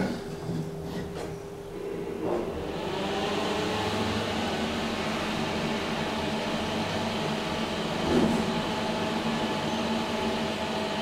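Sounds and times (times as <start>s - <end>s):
elevator motor hum: 1.7s - 11.0s
elevator ride rushing noise: 1.7s - 11.0s.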